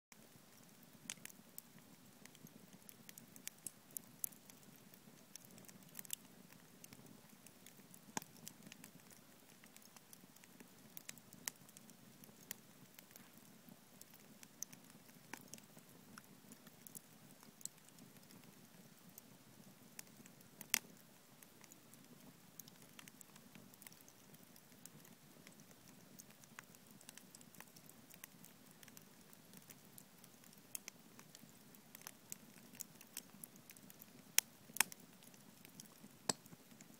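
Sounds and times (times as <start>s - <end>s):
campfire crackling and popping: 0.2s - 36.9s.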